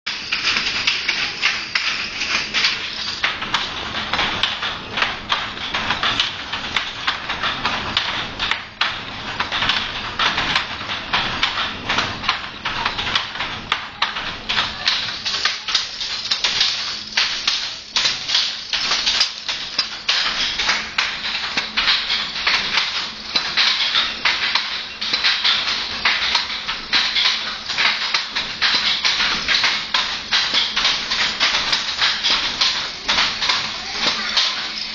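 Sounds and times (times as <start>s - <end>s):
wooden handlooms clacking: 0.1s - 34.9s.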